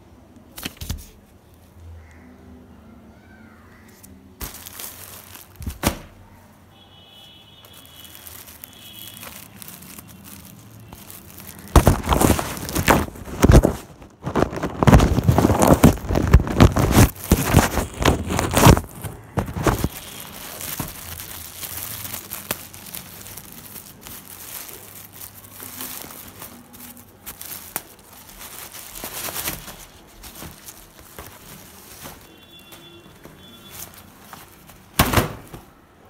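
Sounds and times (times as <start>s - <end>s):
plastic and fabric rustling: 3.8s - 36.0s
plastic packaging crinkling: 3.9s - 6.4s, 7.3s - 36.0s.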